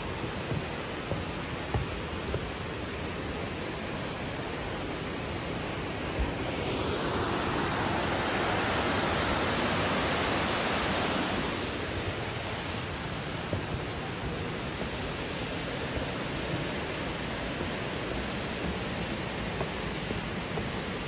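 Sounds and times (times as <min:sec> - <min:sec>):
waterfall rushing water: 0:00.0 - 0:21.0.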